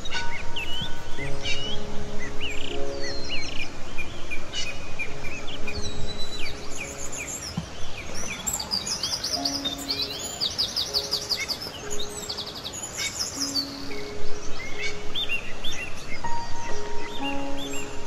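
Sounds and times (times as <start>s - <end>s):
soft background music: 0.0s - 18.0s
songbirds chirping and whistling: 0.0s - 18.0s.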